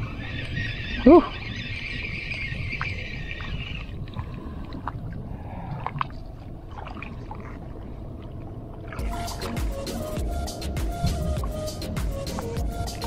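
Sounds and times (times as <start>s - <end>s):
water around a boat: 0.0s - 13.0s
wind: 0.0s - 13.0s.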